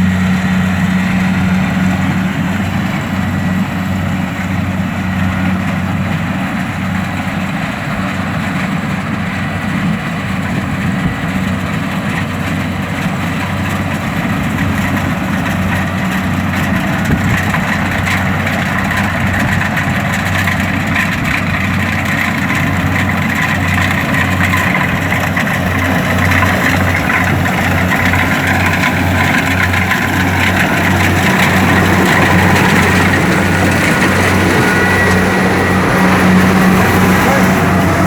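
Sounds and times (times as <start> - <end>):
combine harvester running: 0.0 - 38.0.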